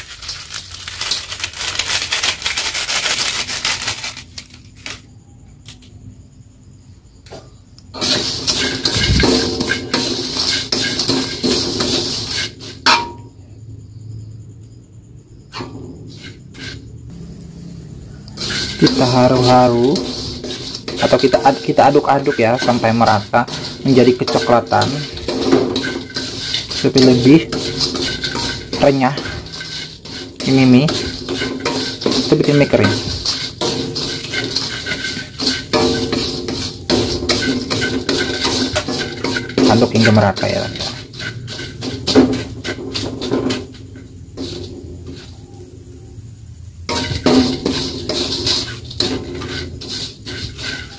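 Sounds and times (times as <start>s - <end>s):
spatula scraping noodles in wok: 0.0s - 5.0s, 8.0s - 13.0s, 15.5s - 17.0s, 18.1s - 45.8s, 46.9s - 50.9s.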